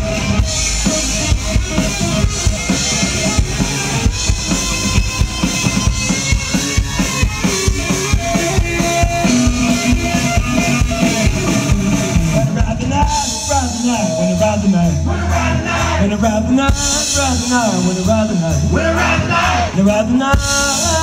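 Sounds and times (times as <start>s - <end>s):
band music with drum kit: 0.0s - 21.0s.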